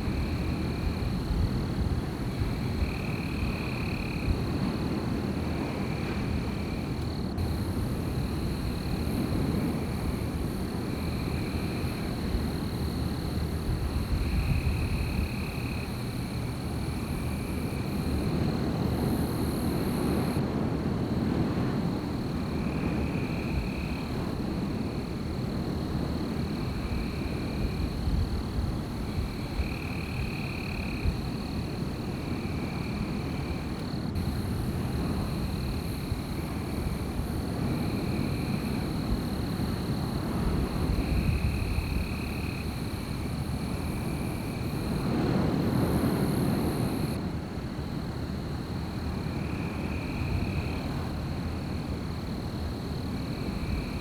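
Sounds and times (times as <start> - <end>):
high thin insect drone: 0.0 - 54.0
wind rumbling: 0.0 - 54.0.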